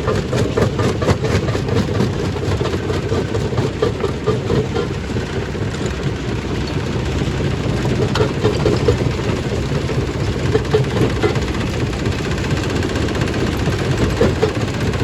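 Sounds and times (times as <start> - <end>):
stone crushing machine rumbling: 0.0 - 15.0.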